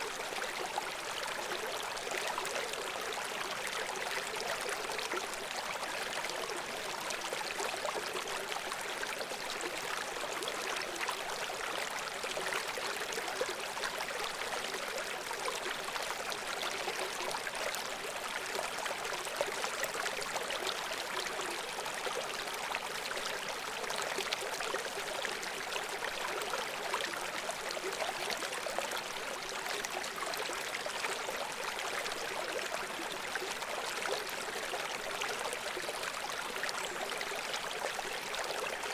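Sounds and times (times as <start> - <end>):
brook babbling over stones: 0.0 - 38.9.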